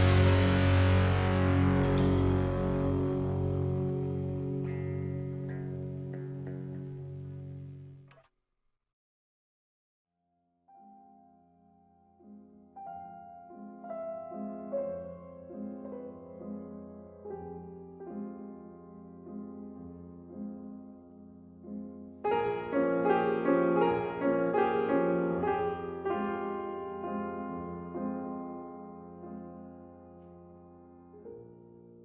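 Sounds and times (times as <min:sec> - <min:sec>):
piano playing soft chords: 0:00.0 - 0:08.0, 0:10.7 - 0:32.0.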